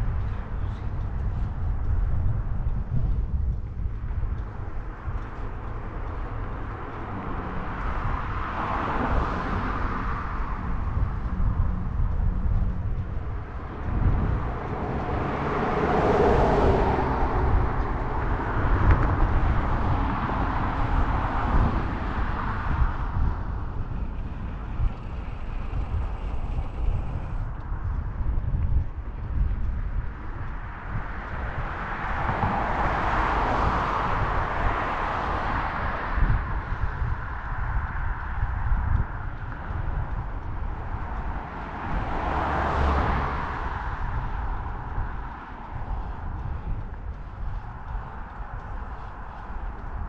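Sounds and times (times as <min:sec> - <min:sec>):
passing road traffic: 0:00.0 - 0:50.0
wind rumbling on microphone: 0:00.0 - 0:50.0.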